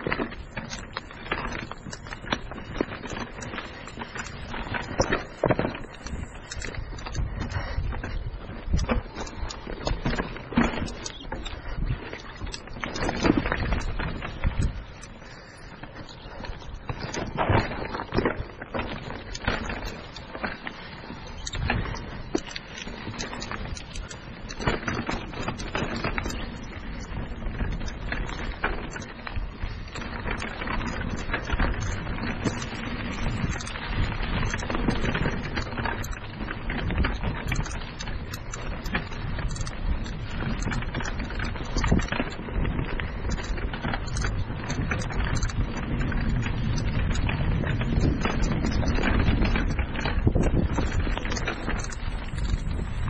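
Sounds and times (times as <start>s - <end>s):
bike rattling over bumps: 0.0s - 53.0s
bike tyres crunching over gravel: 0.0s - 53.0s.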